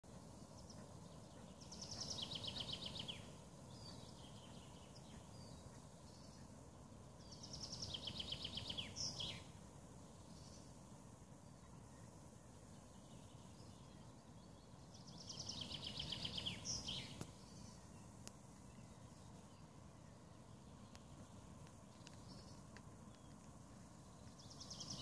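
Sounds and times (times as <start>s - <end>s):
faint low background noise: 0.0s - 25.0s
songbird singing: 0.0s - 25.0s.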